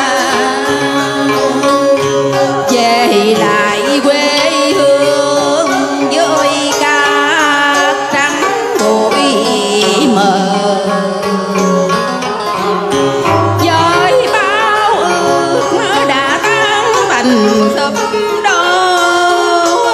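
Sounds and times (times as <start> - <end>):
instrumental accompaniment: 0.0 - 19.9
woman singing with vibrato: 0.0 - 19.9.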